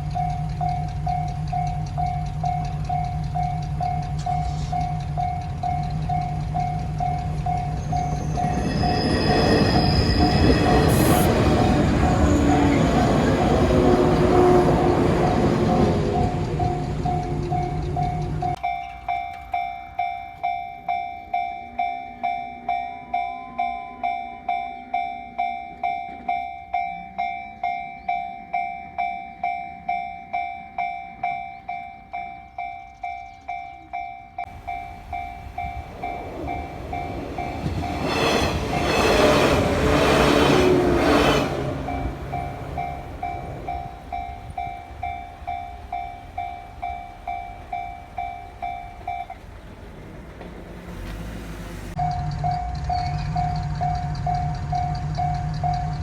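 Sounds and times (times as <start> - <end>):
railroad crossing bell ringing: 0.0 - 56.0
train passing: 0.0 - 56.0.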